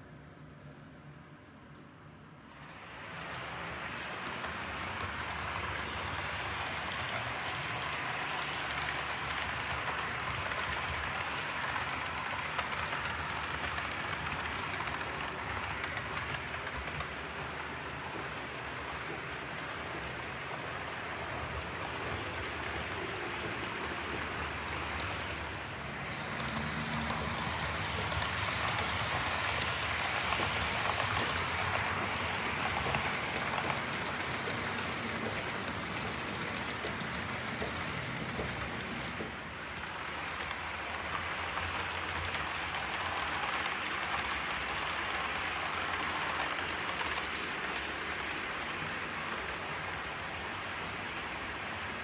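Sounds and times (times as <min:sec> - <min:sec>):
model train rolling on track: 0:00.0 - 0:52.0.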